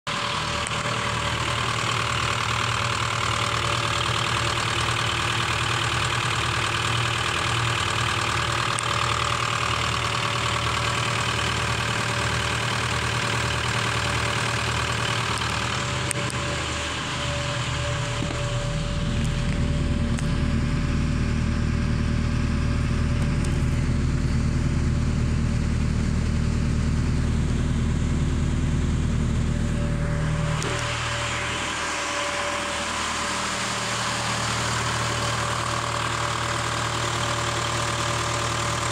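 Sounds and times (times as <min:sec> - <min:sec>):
diesel van engine idling: 0:00.1 - 0:38.9.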